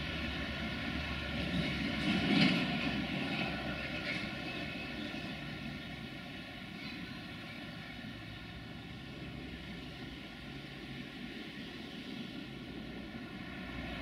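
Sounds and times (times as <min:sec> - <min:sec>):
freight train rumble and wheels: 0:00.0 - 0:14.0.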